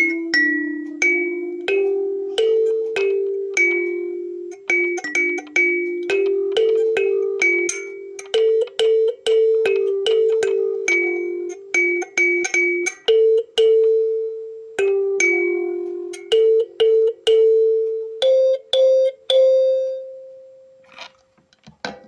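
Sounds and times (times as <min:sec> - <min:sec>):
kalimba notes ringing: 0:00.0 - 0:20.8.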